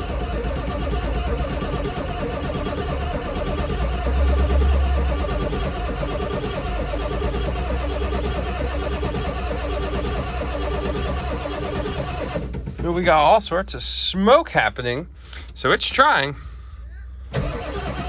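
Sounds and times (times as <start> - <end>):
diesel engine cranking on starter: 0.0 - 13.8, 17.2 - 18.0.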